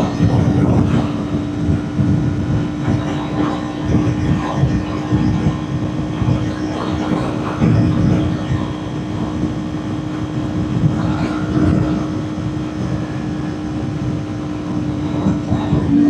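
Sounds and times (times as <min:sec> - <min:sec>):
heavy wind rush: 0:00.0 - 0:16.0
motorcycle engine cruising: 0:00.0 - 0:16.0.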